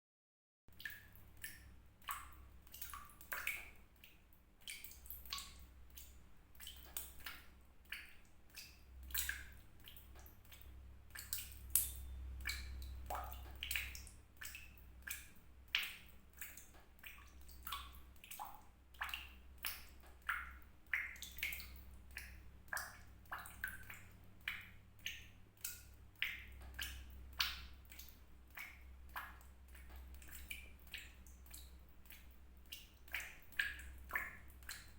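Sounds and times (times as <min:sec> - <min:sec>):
water drops plinking into water: 0:00.7 - 0:34.9.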